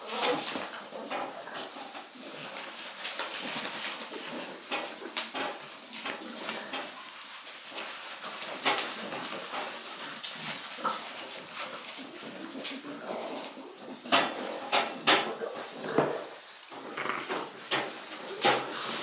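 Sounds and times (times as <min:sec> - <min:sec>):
paws scratching on paper: 0:00.0 - 0:19.0
puppy noises: 0:00.0 - 0:19.0.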